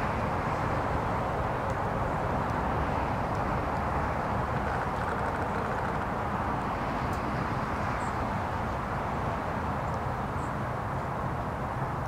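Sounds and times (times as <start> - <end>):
distant road traffic hum: 0.0 - 12.0.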